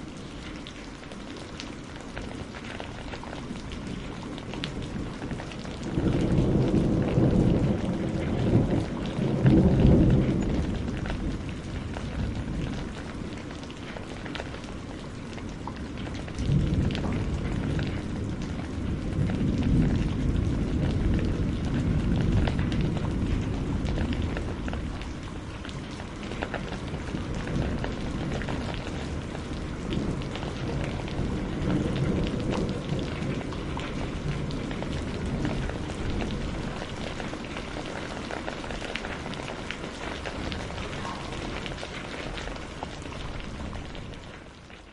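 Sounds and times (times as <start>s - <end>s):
low rumble of thunder: 0.0s - 44.9s
steady rain falling: 0.0s - 44.9s.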